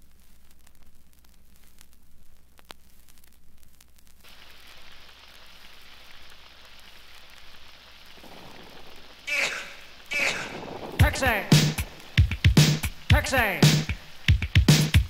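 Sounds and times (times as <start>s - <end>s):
steady hiss: 0.0s - 15.0s
vinyl record clicks and crackle: 0.0s - 15.0s.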